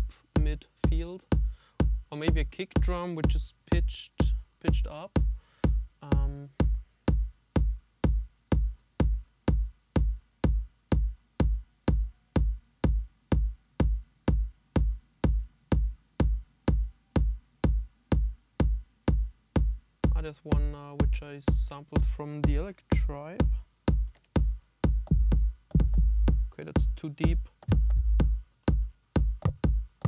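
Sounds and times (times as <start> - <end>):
electronic kick drum beat: 0.0 - 30.0.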